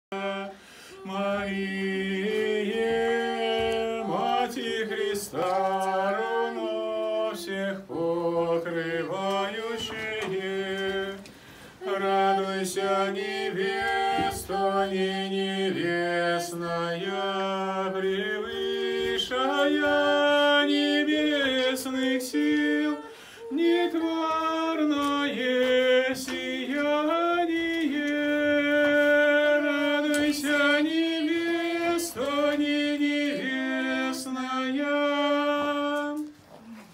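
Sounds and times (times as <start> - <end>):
unaccompanied choir chanting a hymn: 0.1 - 36.3.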